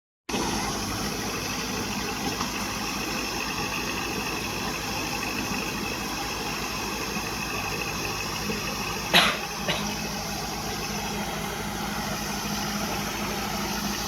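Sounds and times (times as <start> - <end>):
tractor diesel engine running: 0.3 - 14.0.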